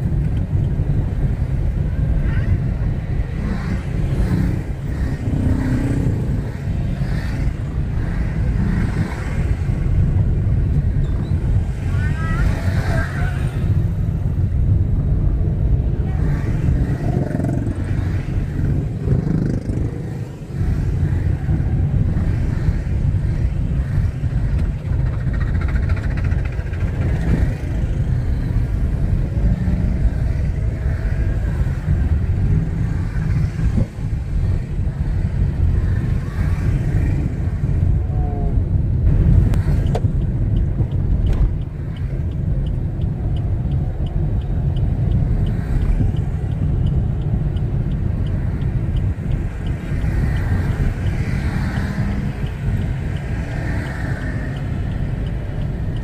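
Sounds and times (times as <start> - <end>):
heavy road traffic rumble: 0.0 - 56.0.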